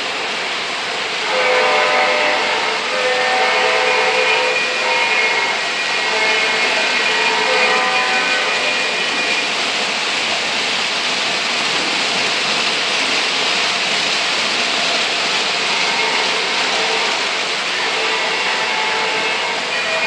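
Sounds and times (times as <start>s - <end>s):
model train wheels rolling on rails: 0.0s - 20.0s.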